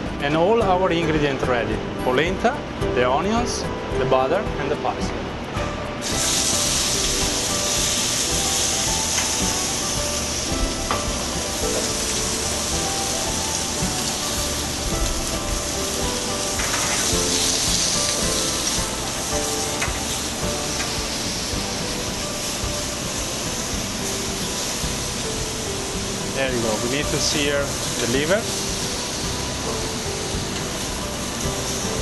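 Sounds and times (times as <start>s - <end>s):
liver sizzling in a pan: 6.0s - 32.0s.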